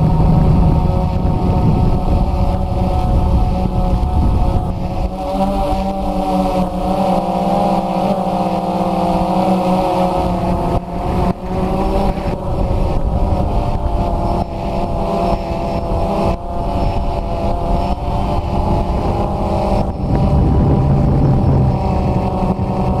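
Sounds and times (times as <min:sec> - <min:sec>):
drone propellers whirring: 0:00.0 - 0:23.0.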